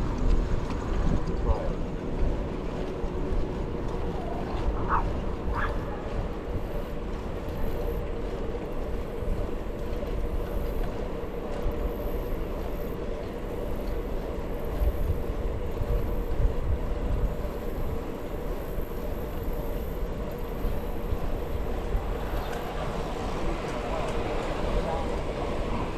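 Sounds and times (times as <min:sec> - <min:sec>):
bicycle tyres rolling on path: 0:00.0 - 0:25.9
wind buffeting microphone: 0:00.0 - 0:25.9.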